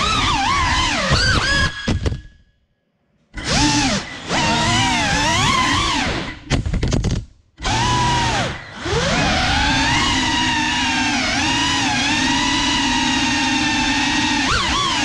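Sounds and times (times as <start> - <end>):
drone motors whining: 0.0 - 2.2, 3.4 - 6.5, 7.6 - 15.0.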